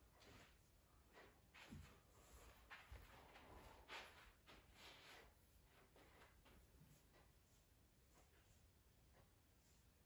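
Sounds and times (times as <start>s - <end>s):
faint soft rustles: 0.1s - 10.0s.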